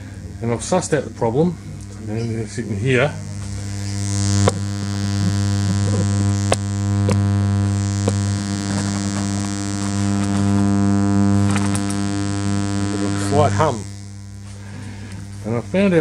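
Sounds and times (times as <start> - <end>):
speaker hum: 0.0 - 16.0.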